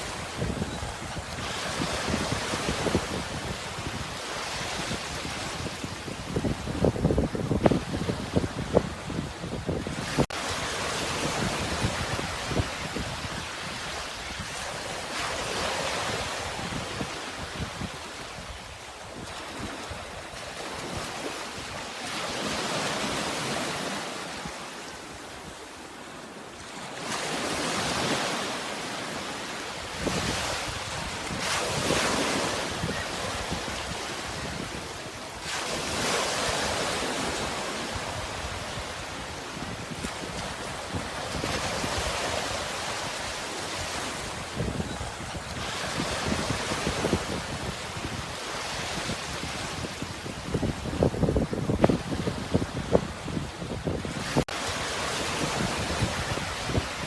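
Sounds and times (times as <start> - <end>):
wind rumbling on microphone: 0.0 - 21.8, 29.8 - 57.0
sea waves breaking: 0.0 - 57.0.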